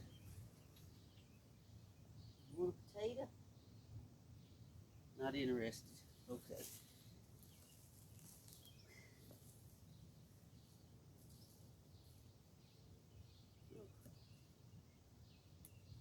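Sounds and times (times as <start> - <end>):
distant bird chirps: 0.0 - 16.0.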